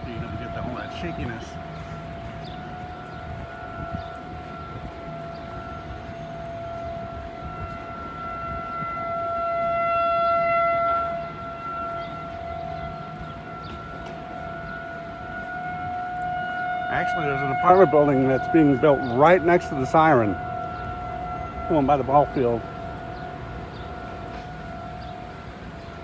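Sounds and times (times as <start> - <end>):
distant warning siren: 0.0 - 26.0.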